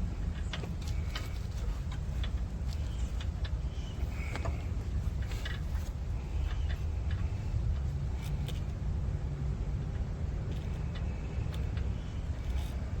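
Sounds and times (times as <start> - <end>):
low steady rumble: 0.0 - 13.0
light clicks and taps of tools: 0.2 - 9.1, 9.7 - 13.0.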